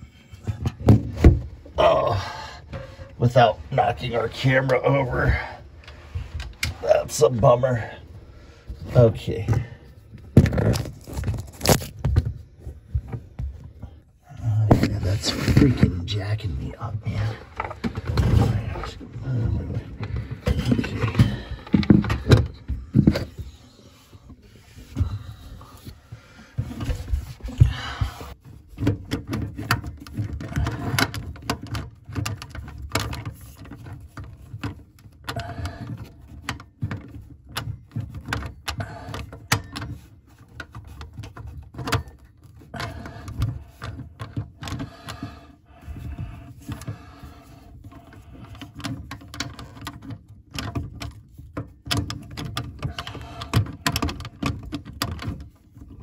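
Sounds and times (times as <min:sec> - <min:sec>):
hands handling plumbing hardware: 0:00.0 - 0:56.0.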